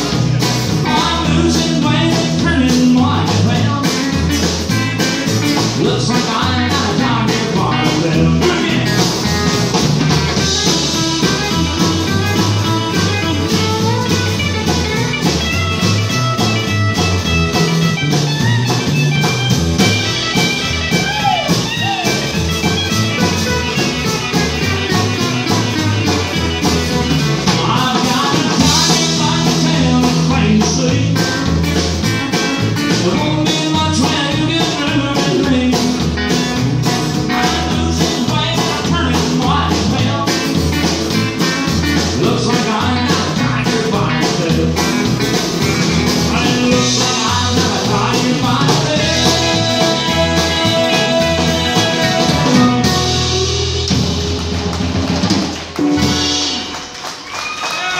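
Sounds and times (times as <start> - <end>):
live country band playing: 0.0 - 57.9.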